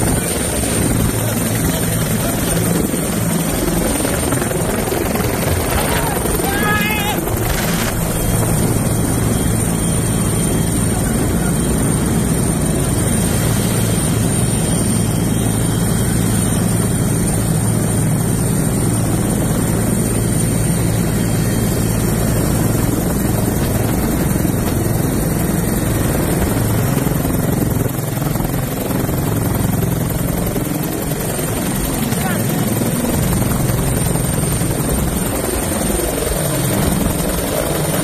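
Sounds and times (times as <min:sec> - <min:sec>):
helicopter rotor drone: 0:00.0 - 0:38.0.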